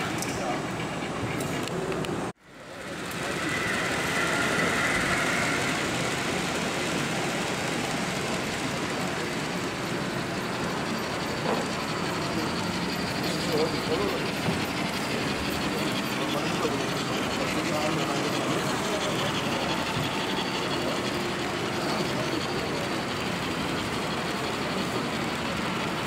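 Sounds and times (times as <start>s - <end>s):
model trains running: 0.0s - 26.0s
murmur of crowd in hall: 0.0s - 26.0s.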